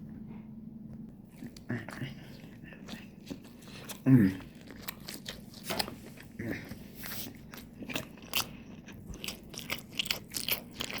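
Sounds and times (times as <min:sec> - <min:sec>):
chewing crunches: 0:01.3 - 0:11.0.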